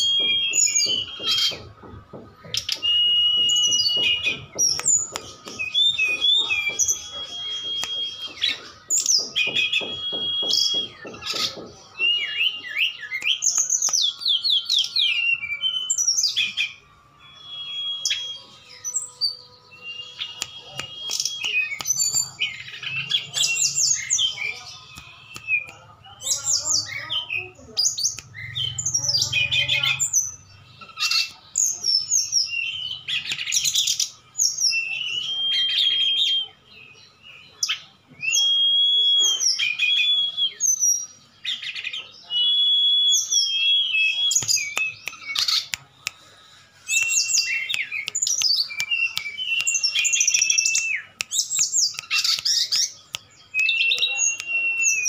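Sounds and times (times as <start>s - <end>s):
high whistled bird trills: 0.0s - 55.0s
songbirds singing: 0.0s - 55.0s.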